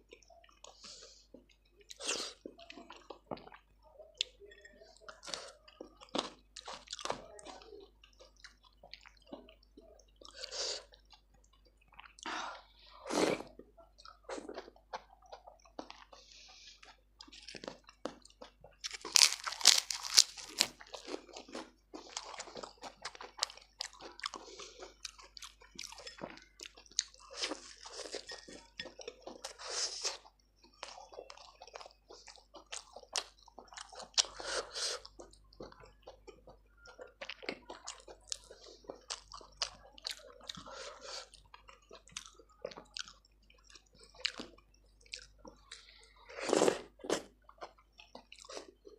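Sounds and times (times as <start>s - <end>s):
crunchy chewing: 5.1s - 9.5s, 13.1s - 48.9s.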